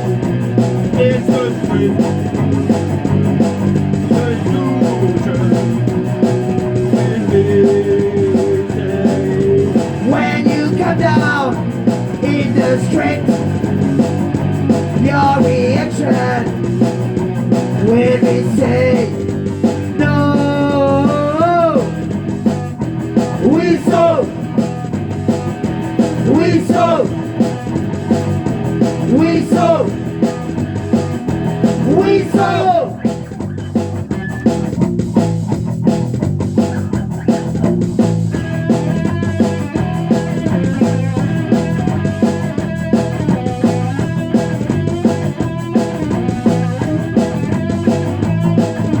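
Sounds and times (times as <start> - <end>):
electric guitar lead line: 0.0 - 49.0
rock band playing: 0.0 - 49.0.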